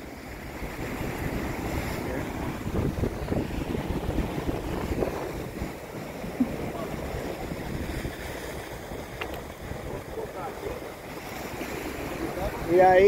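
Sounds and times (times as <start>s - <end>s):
wind buffeting microphone: 0.0s - 13.0s
surf breaking on rocks: 0.3s - 13.0s.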